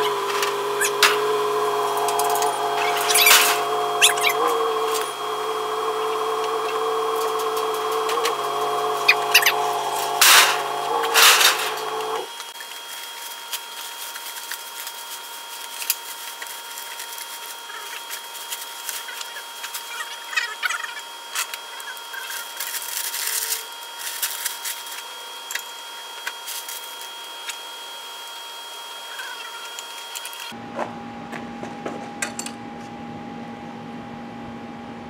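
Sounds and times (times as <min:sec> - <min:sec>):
motor humming: 0:00.0 - 0:12.9, 0:13.6 - 0:35.0.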